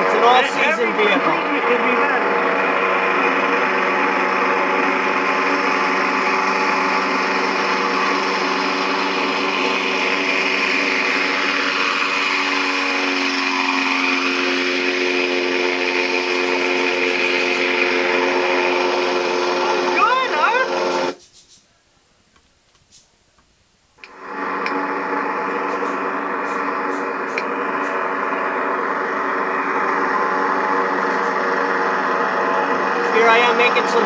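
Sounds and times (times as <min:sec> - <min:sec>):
engine and propeller running: 0:00.0 - 0:21.2, 0:24.0 - 0:34.0.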